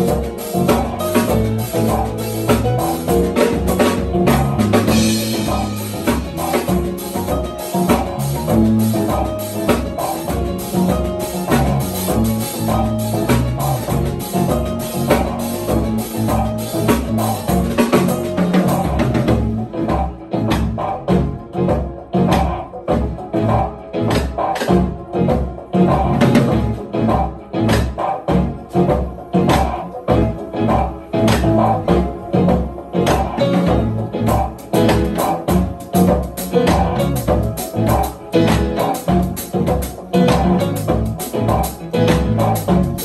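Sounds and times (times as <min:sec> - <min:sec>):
drum kit grooves: 0:00.0 - 0:43.0
electric bass line: 0:00.0 - 0:43.0
piano chords: 0:00.0 - 0:43.0.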